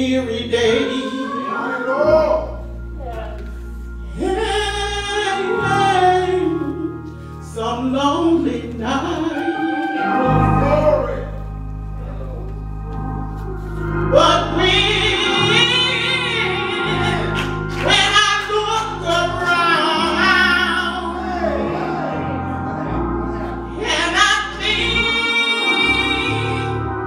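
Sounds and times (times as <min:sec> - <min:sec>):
woman singing gospel song: 0:00.0 - 0:11.4, 0:14.1 - 0:22.4, 0:23.2 - 0:27.0
low sustained accompaniment: 0:00.0 - 0:27.0.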